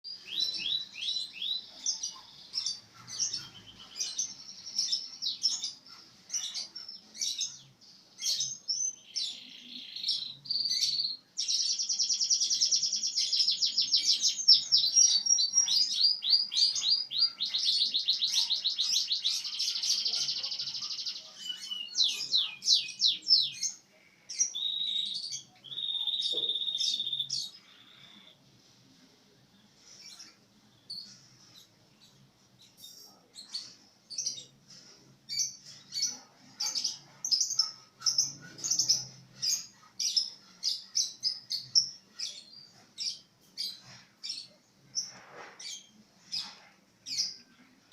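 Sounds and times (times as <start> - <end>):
songbird singing: 0.0 - 28.5, 29.3 - 47.9.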